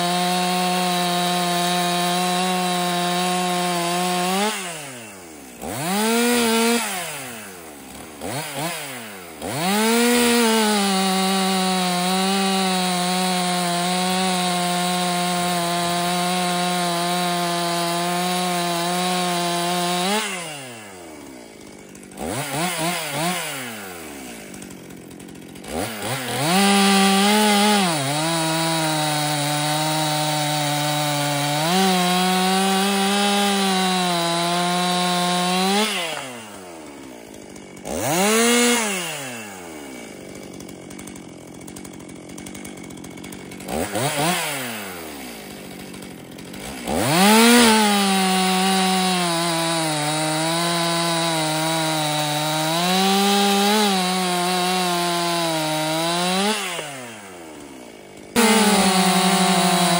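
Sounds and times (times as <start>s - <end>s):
chainsaw cutting log: 0.0s - 59.9s
chainsaw idling and revving: 0.0s - 59.9s.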